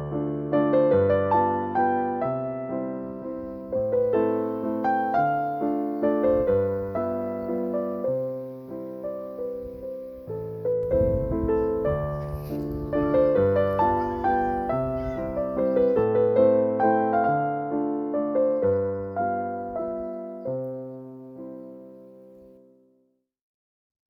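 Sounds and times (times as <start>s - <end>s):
gentle piano melody: 0.0s - 23.0s.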